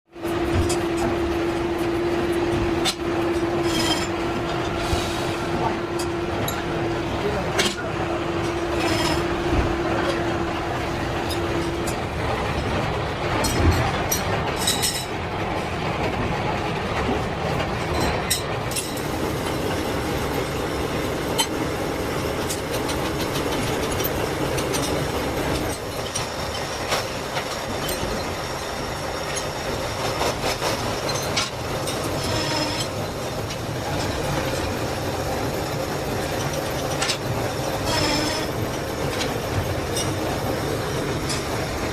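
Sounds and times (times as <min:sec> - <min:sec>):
machine whine: 0:00.2 - 0:15.2, 0:17.0 - 0:41.9
milling machine cutting metal: 0:00.2 - 0:15.2, 0:17.6 - 0:41.9.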